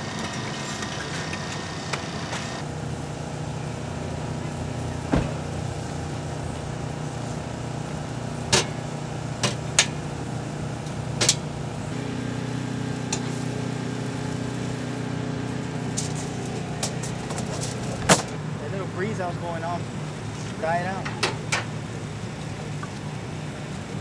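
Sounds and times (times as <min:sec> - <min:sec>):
engine humming steadily: 0:00.0 - 0:24.0.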